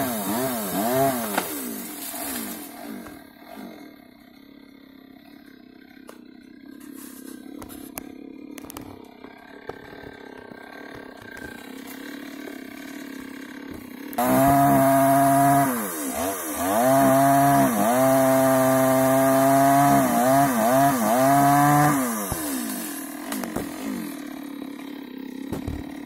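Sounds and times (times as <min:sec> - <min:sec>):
chainsaw revving: 0:00.0 - 0:26.0.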